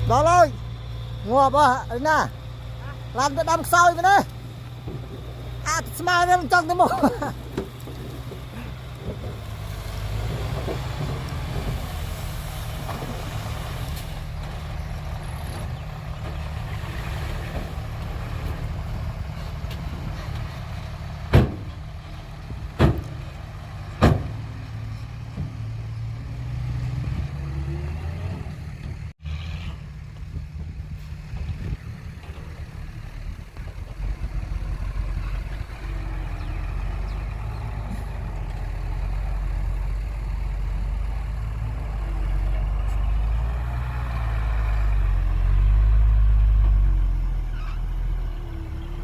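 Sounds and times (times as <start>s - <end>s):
heavy diesel engine running: 0.0s - 26.5s, 28.5s - 49.0s.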